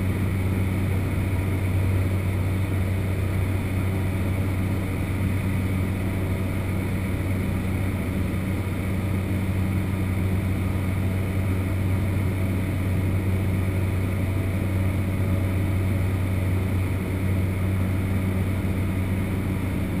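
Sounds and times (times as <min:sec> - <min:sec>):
propeller engine droning: 0:00.0 - 0:20.0.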